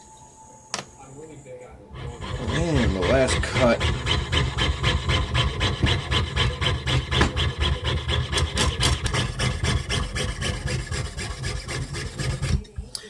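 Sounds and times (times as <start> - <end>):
saw blade rasping through coin: 1.9 - 12.8.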